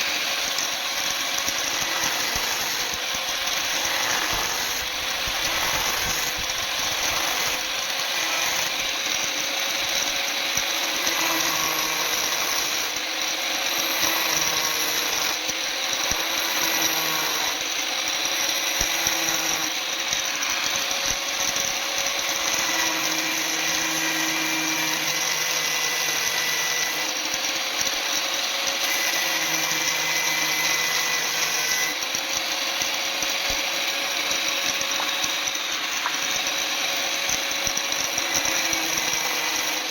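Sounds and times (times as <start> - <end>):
power tool whining on steel: 0.0 - 39.9.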